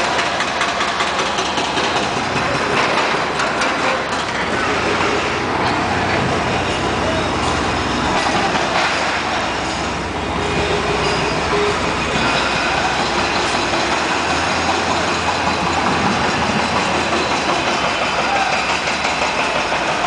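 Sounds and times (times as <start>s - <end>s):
machine engine running: 0.0s - 20.0s.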